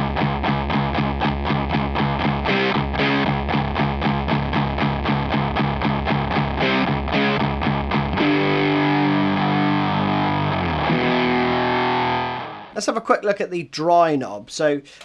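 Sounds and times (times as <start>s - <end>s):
distorted electric guitar riff: 0.0s - 12.8s.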